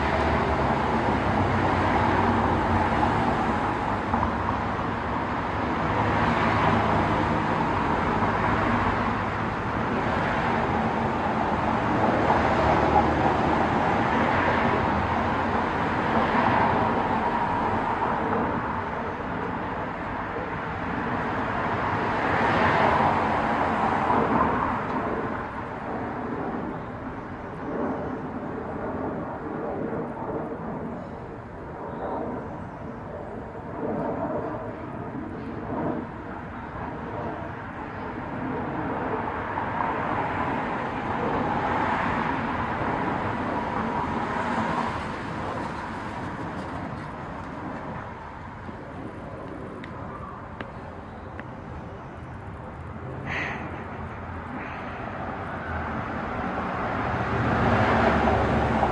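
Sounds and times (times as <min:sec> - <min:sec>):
road traffic passing: 0:00.0 - 0:58.9.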